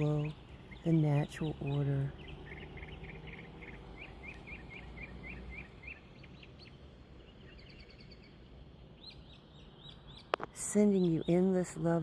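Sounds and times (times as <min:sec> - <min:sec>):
low outdoor rumble: 0:00.0 - 0:12.0
songbird chirping: 0:00.0 - 0:12.0.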